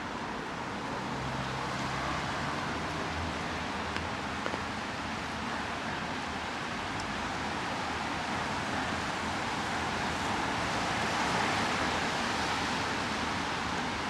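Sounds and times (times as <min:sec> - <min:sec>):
rain on a wet street: 0:00.0 - 0:14.0.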